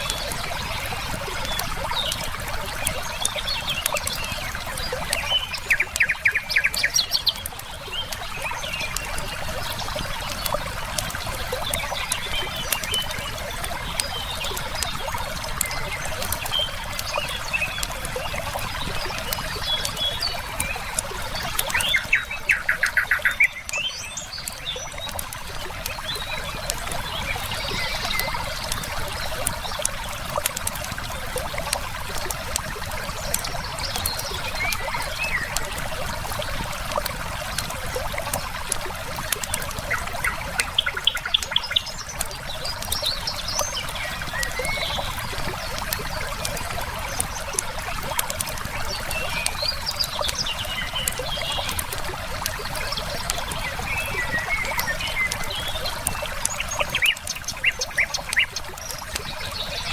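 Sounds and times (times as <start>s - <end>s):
campfire crackling: 0.0s - 59.9s
river water flowing: 0.0s - 59.9s
small birds chirping: 0.0s - 59.9s.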